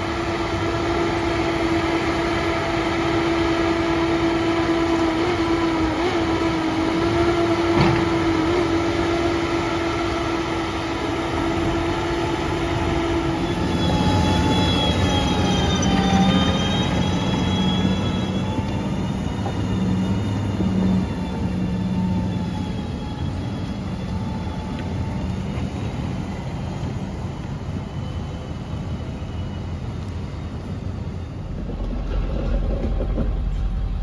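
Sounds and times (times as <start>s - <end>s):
skidder engine running: 0.0s - 26.3s, 31.5s - 34.0s
log loader diesel engine whining: 0.0s - 34.0s.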